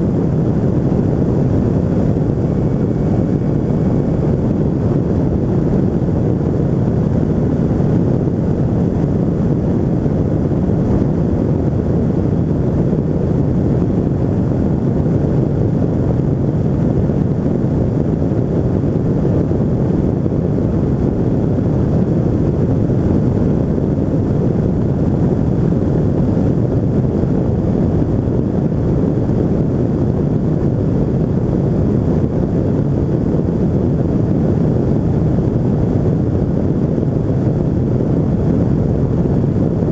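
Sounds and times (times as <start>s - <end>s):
microlight engine drone: 0.0s - 39.9s
wind buffeting microphone: 0.0s - 39.9s.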